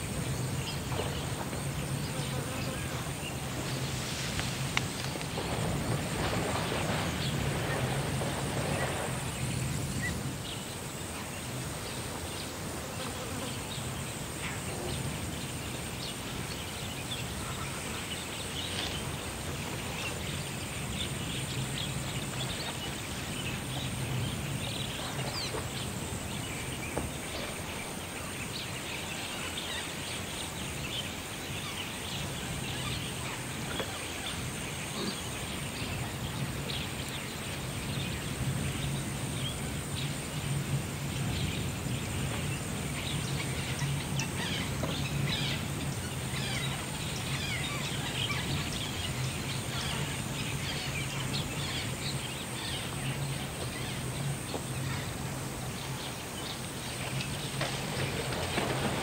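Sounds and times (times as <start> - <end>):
faint crackles and chirps: 0.0 - 59.0.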